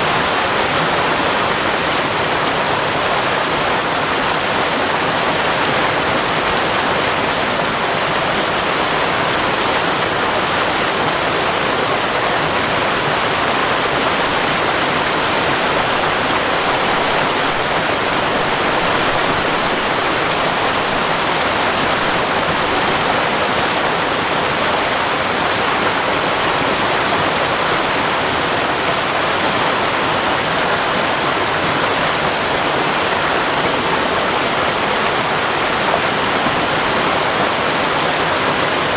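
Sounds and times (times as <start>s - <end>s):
waterfall rushing over rock: 0.0s - 38.9s.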